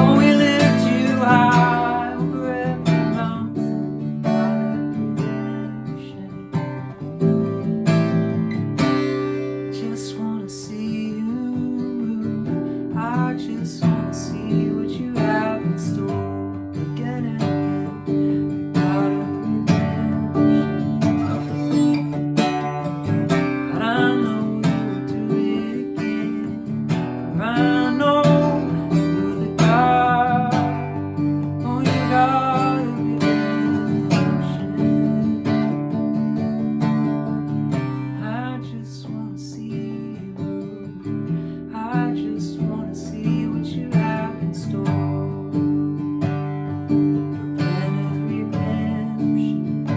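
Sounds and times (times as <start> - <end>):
acoustic guitar strumming: 0.0 - 49.9
person singing wordless lines: 0.0 - 49.9.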